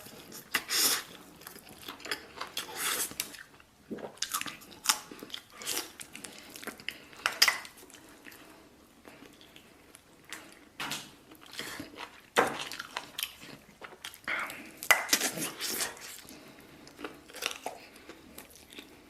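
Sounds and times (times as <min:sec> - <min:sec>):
wet chewing: 0:00.0 - 0:10.7, 0:11.3 - 0:19.0.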